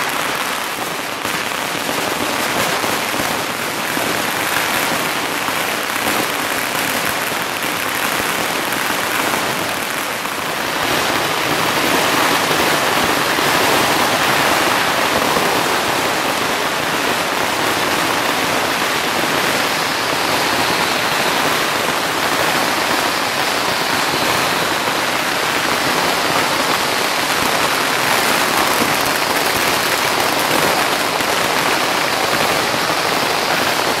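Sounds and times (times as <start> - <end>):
firecrackers crackling: 0.0 - 34.0.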